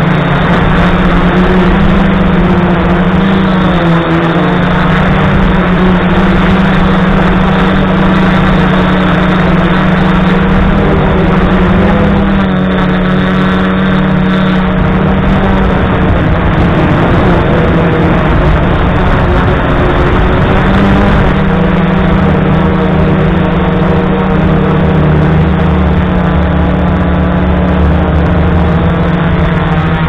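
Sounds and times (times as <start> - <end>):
drone motors buzzing: 0.0 - 30.0.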